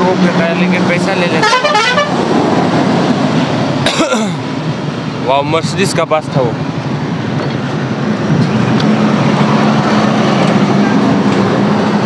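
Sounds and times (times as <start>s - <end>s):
heavy vehicle engine drone: 0.0s - 12.0s
tyre and road noise: 0.0s - 12.0s.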